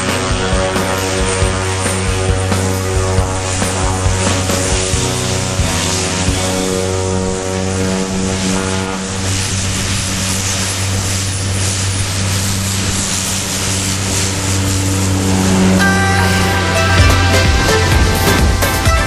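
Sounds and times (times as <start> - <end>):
propeller plane engine drone: 0.0 - 19.0
rushing hiss: 0.0 - 19.0.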